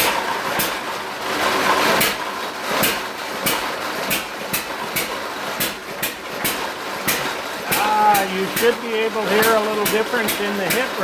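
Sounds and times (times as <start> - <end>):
engine sharp clacks: 0.0 - 11.0
steady mechanical running noise: 0.0 - 11.0.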